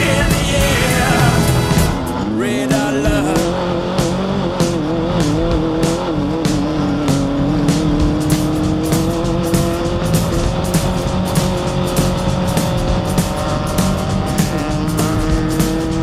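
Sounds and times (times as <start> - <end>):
background music with steady beat: 0.0 - 16.0
race car engine under load: 0.0 - 16.0.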